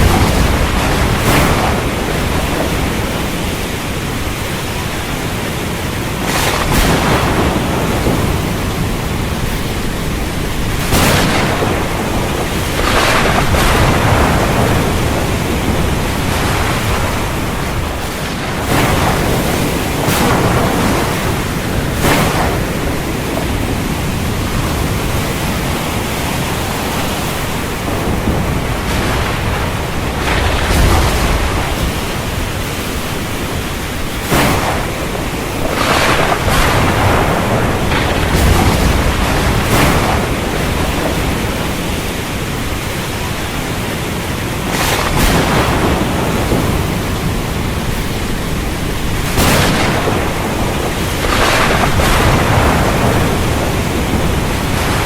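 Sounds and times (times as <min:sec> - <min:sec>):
surf surging: 0:00.0 - 0:55.0
wind: 0:00.0 - 0:55.0.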